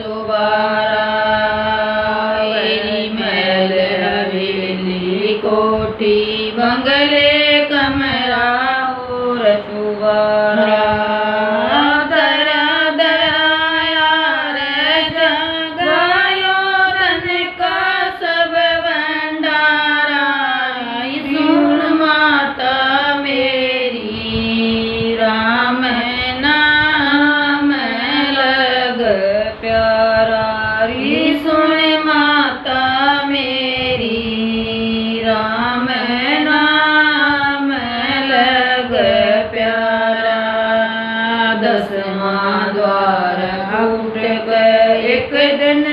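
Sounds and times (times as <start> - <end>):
two women singing devotional song: 0.0 - 45.9.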